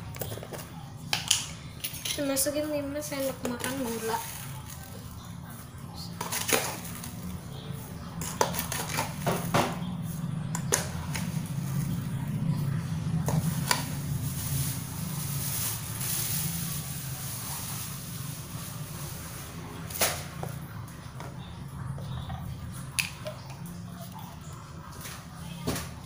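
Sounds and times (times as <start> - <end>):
steady low hum: 2.6 - 26.0.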